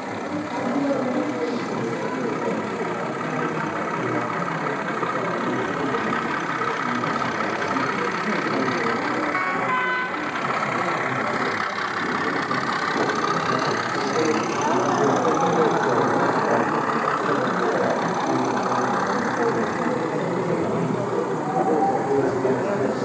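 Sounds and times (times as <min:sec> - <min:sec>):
model locomotive engine running: 0:00.0 - 0:23.0
murmur of crowd: 0:00.0 - 0:23.0.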